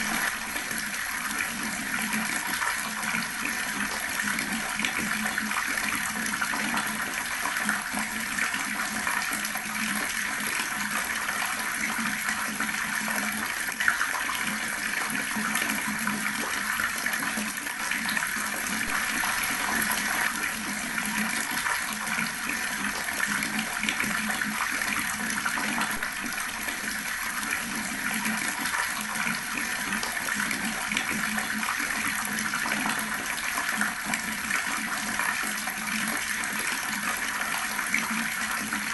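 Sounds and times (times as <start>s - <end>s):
water running from a tap: 0.0s - 38.9s.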